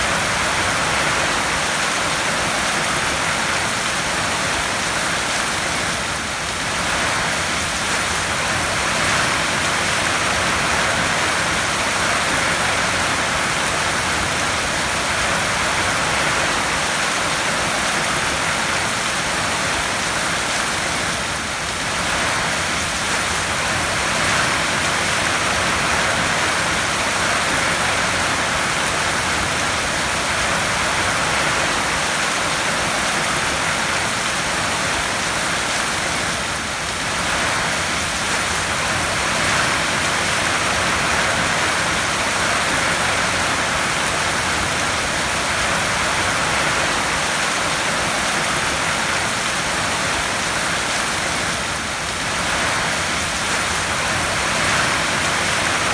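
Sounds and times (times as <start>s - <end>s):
heavy rain on a tin roof: 0.0s - 55.9s.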